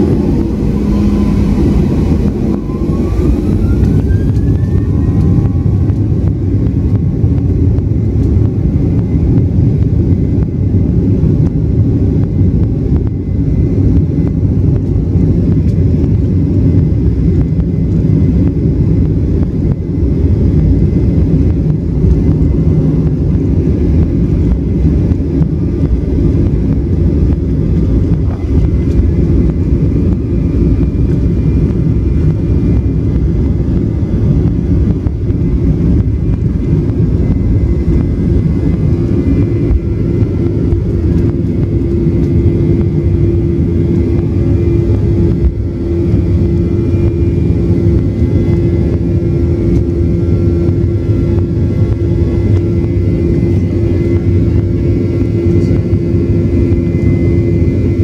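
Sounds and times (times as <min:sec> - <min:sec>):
hum: 0:00.0 - 0:58.0
jet engines at takeoff: 0:00.0 - 0:58.0
undercarriage rumbling on runway: 0:00.0 - 0:58.0.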